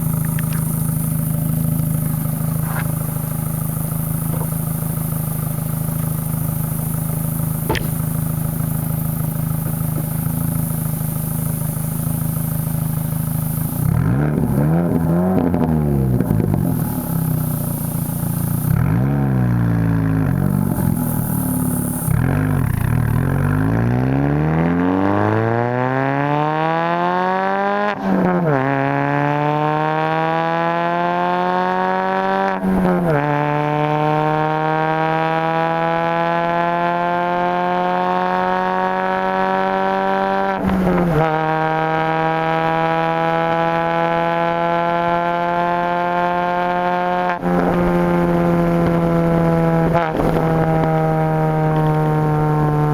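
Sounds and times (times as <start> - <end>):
car exhaust under hard acceleration: 0.0 - 52.9.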